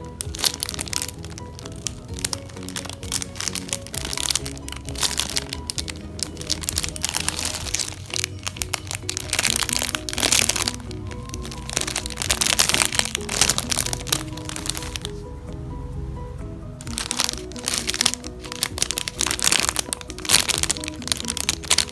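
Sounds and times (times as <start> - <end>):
background music: 0.0 - 21.9
foam toys squeezed crackling: 0.2 - 15.2, 16.9 - 21.9.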